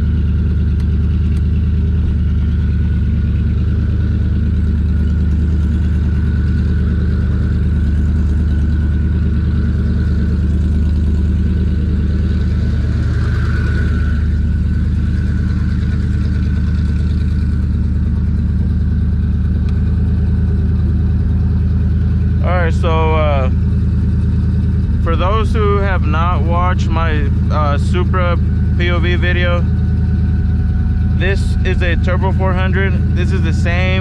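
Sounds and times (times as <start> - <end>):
car engine running steadily: 0.0 - 34.0.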